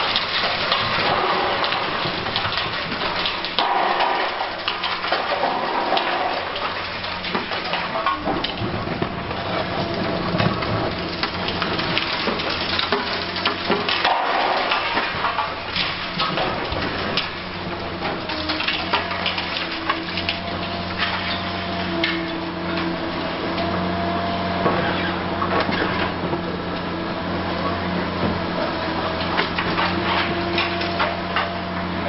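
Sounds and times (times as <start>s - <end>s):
concrete debris crunching: 0.0s - 32.0s
diesel engine running: 0.0s - 32.0s.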